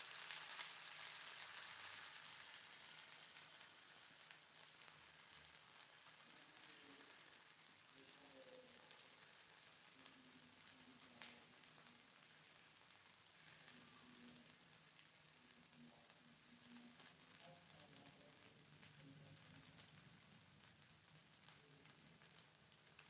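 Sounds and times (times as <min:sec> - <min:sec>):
crepe sizzling in a pan: 0:00.0 - 0:23.0
small crackles: 0:00.0 - 0:23.0.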